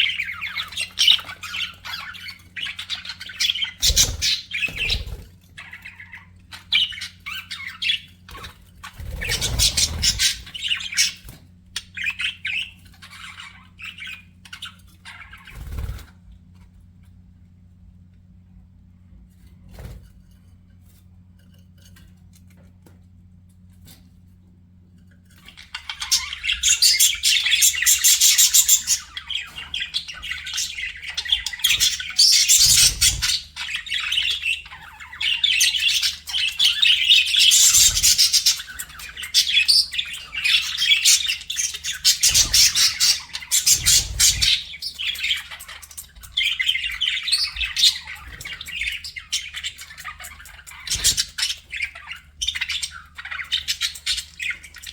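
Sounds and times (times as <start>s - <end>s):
budgerigars chattering and chirping: 0.0s - 16.1s, 25.3s - 54.9s
faint low hum: 0.0s - 54.9s.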